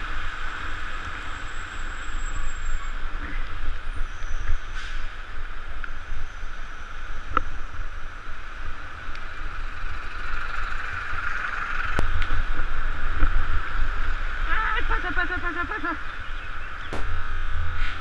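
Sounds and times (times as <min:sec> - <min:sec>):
tyres hissing on wet road: 0:00.0 - 0:18.0
wind rumble on microphone: 0:02.8 - 0:18.0.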